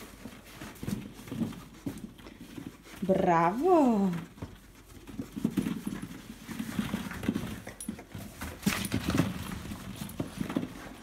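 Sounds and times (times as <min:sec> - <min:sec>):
plastic balls clattering: 0:00.0 - 0:11.0.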